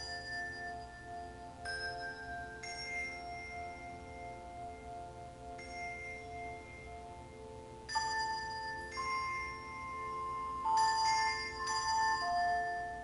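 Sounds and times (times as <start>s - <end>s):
handbell chords ringing: 0.0s - 13.0s.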